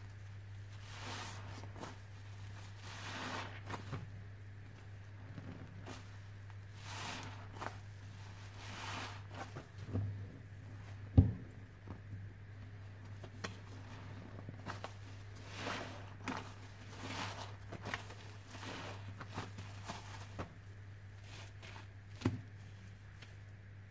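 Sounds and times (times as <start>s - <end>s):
low steady hum: 0.0s - 23.9s
wet sponges squishing: 0.1s - 11.1s, 11.9s - 23.4s.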